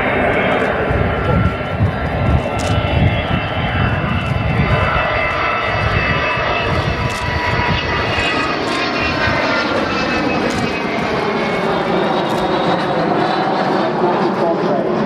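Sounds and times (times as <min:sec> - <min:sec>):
faint jet whine: 0:00.0 - 0:15.0
jet engines rumbling overhead: 0:00.0 - 0:15.0.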